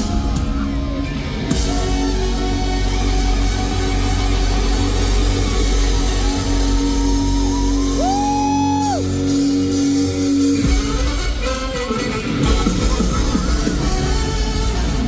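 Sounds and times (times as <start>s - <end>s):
heavy bass: 0.0s - 15.0s
live funk rock band: 0.0s - 15.0s.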